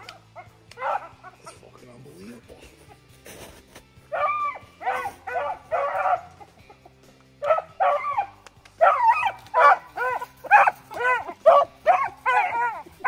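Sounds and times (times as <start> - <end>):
dogs baying: 0.0 - 1.8, 2.6 - 13.0.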